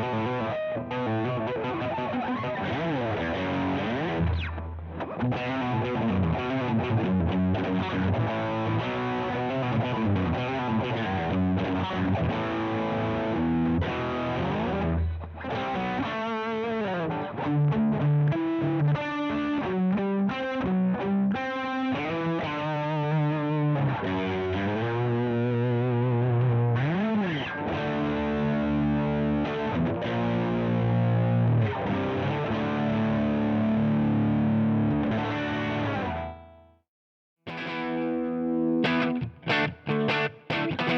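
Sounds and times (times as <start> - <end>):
distorted electric guitar: 0.0 - 36.7, 37.4 - 40.9.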